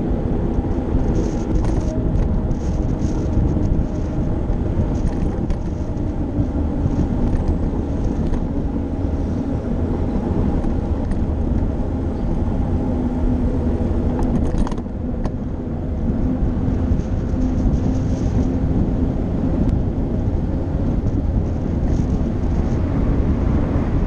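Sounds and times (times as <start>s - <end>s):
bicycle rolling: 0.0s - 24.0s
car traffic: 0.0s - 24.0s
low hum: 0.0s - 24.0s
wind noise: 0.0s - 24.0s.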